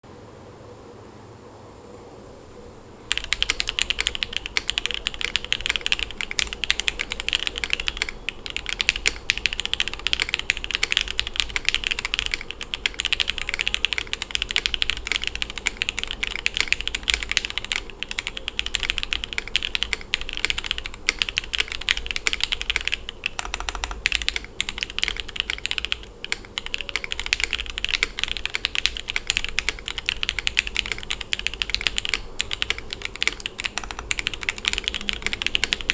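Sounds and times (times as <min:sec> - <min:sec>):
fast typing on mechanical keyboard: 0:03.1 - 0:35.9.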